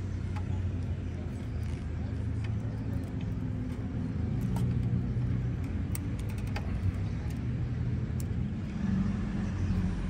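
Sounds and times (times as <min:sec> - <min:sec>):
plastic connectors clicking: 0:00.3 - 0:08.5.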